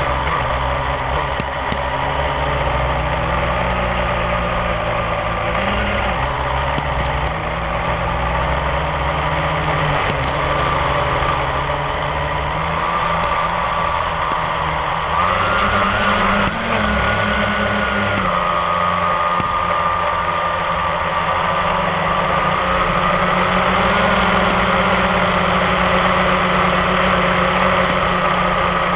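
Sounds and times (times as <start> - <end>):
engine-like drone with whine: 0.0 - 28.9.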